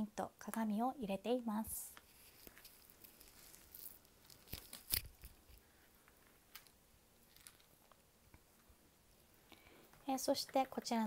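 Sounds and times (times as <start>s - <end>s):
faint rustling: 1.6s - 10.6s.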